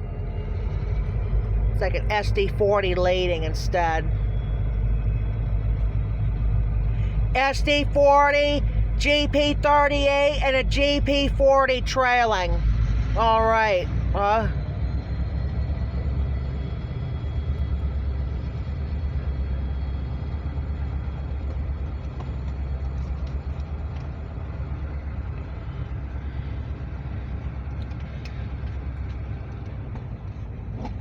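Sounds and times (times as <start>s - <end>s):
freight train cars rolling past: 0.0s - 31.0s.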